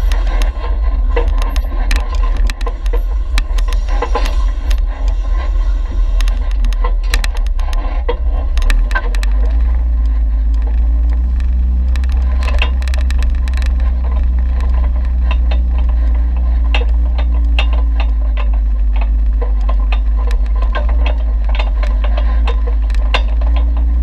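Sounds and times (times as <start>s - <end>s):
clicks and rattles from rough ground: 0.0s - 24.0s
off-road vehicle low rumble: 0.0s - 24.0s.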